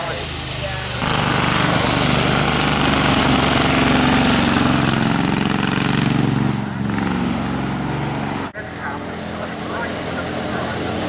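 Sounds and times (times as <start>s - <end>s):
racing car engine accelerating: 0.0s - 11.0s.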